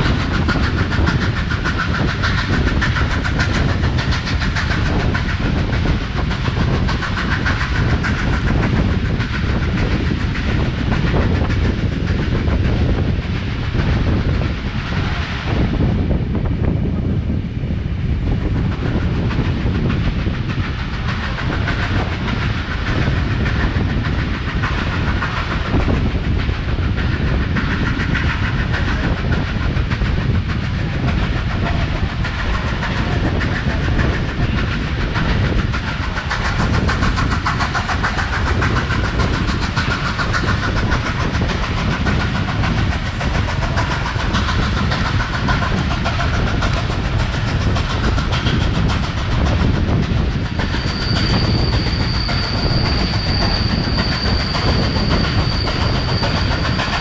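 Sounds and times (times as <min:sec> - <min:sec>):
wheels on rails: 0:00.0 - 0:16.1, 0:18.1 - 0:57.0
steam train rumbling: 0:00.0 - 0:57.0.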